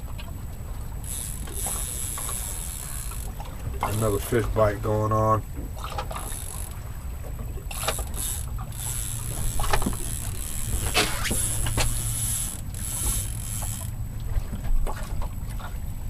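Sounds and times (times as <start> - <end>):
fishing reel whirring: 0.0 - 5.1, 5.7 - 14.6
water lapping: 0.0 - 16.0
wind: 0.0 - 16.0.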